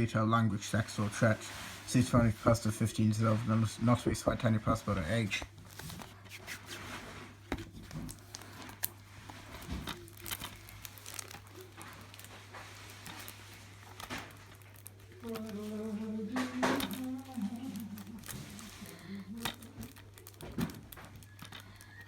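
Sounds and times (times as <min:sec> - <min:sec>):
low electrical hum: 0:00.0 - 0:22.0
plastic wrapping crinkling: 0:00.7 - 0:22.0.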